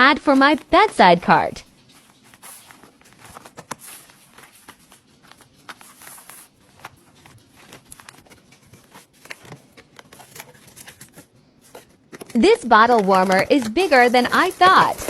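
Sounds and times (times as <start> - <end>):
packaging rustling: 0.5 - 15.0.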